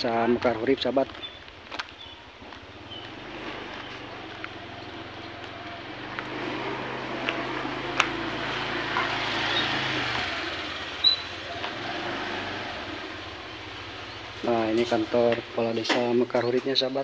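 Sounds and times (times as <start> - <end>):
motor engine humming: 0.0 - 16.3.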